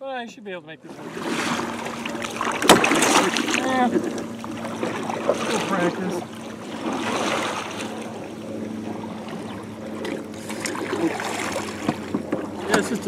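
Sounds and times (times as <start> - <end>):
paddle stroking through water: 0.8 - 13.0.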